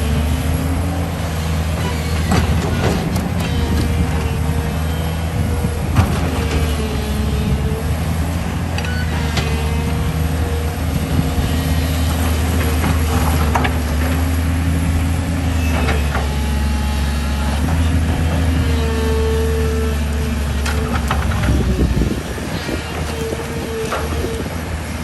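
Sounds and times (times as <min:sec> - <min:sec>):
excavator diesel engine running: 0:00.0 - 0:25.0
hydraulic whine: 0:00.0 - 0:25.0.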